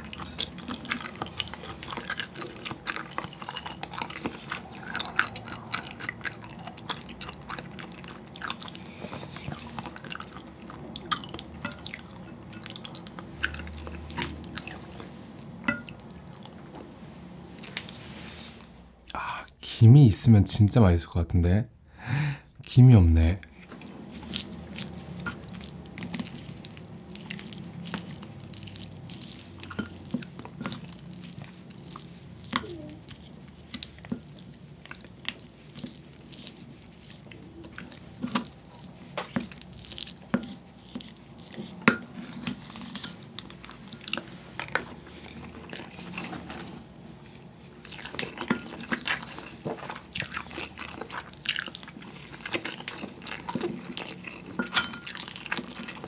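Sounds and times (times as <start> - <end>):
chewing: 0.0 - 16.7, 23.4 - 56.0
wet squishing of rice: 0.0 - 19.2, 22.6 - 56.0.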